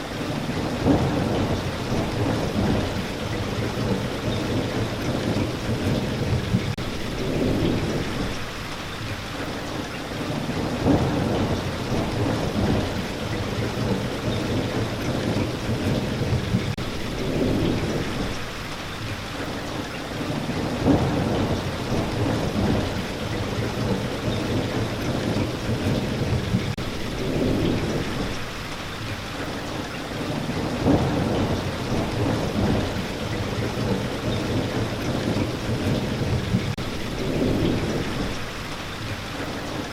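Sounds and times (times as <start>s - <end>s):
heavy rain: 0.0s - 39.9s
thunder rolling: 0.5s - 8.6s, 10.5s - 18.6s, 20.5s - 28.7s, 30.3s - 38.8s.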